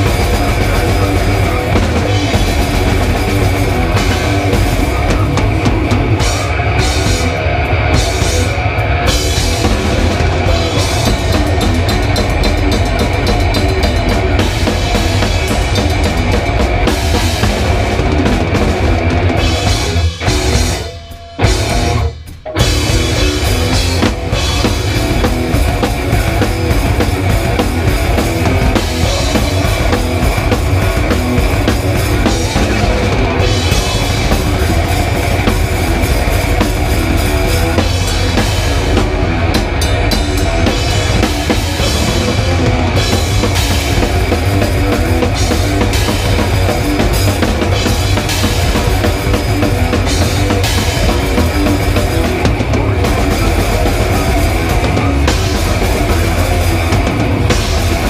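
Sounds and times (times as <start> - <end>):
bass drum and cymbals pounding: 0.0 - 58.0
heavy rock band playing: 0.0 - 58.0.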